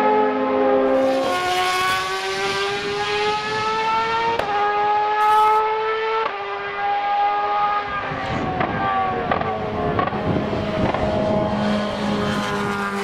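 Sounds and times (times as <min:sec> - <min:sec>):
racing car engine at full throttle: 0:00.0 - 0:13.0.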